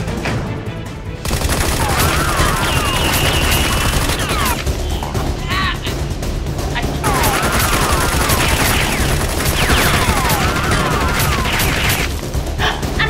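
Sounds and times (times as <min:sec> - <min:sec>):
rapid automatic gunfire effects: 0:01.2 - 0:12.6.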